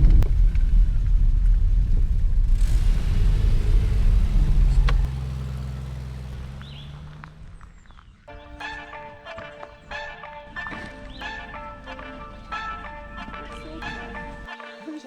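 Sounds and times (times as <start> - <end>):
vehicle engine rumbling: 0.0 - 14.5.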